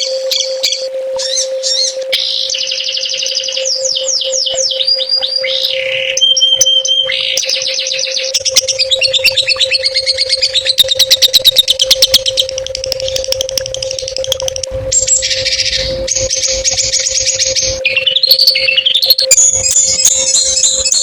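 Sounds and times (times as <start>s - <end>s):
buzzy bird trill: 0.0s - 21.0s
songbird chirps and trills: 0.0s - 21.0s
steady low hum: 0.0s - 21.0s.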